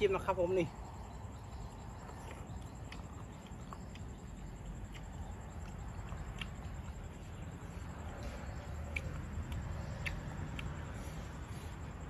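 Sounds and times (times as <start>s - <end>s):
chewing soft clicks: 0.9s - 12.0s.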